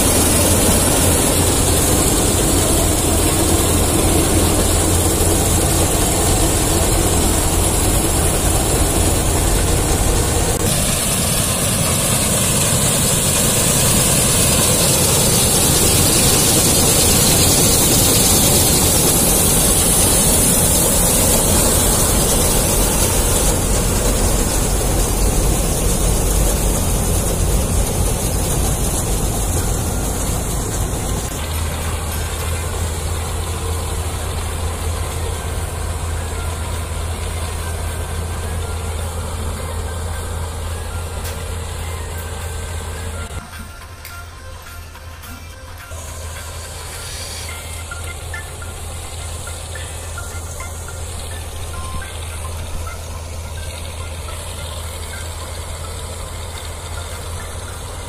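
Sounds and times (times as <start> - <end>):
constant high hiss: 0.0 - 58.0
heavy diesel engine drone: 0.0 - 58.0.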